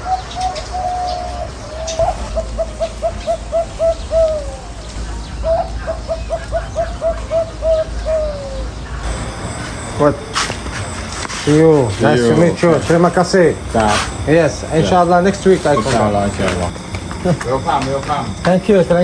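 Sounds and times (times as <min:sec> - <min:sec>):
bird calling repeated notes: 0:00.0 - 0:18.9.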